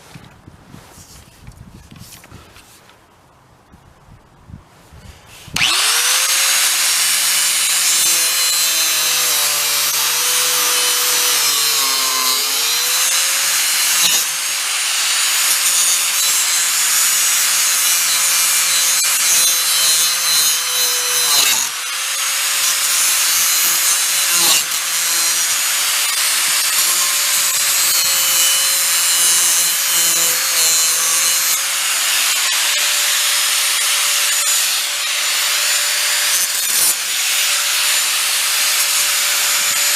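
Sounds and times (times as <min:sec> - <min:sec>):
angle grinder cutting metal: 0:05.6 - 0:39.9.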